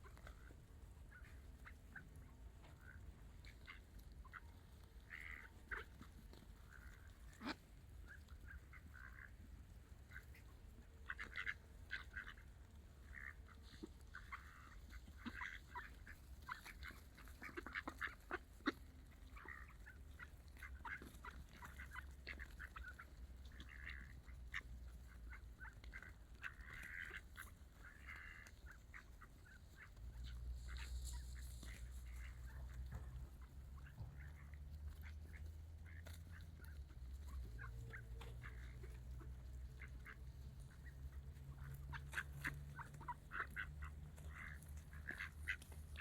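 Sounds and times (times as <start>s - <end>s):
ducks calling: 0.0s - 46.0s.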